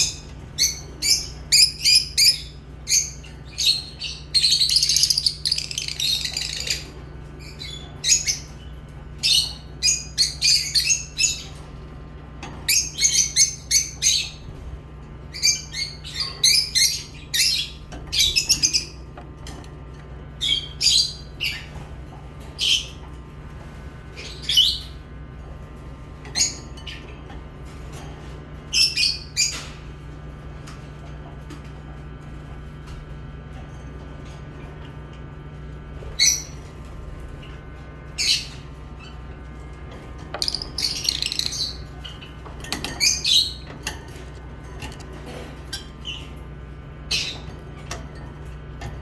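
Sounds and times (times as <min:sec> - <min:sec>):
lovebirds chirping and squawking: 0:00.0 - 0:29.8, 0:36.0 - 0:49.0
steady low hum: 0:00.0 - 0:49.0.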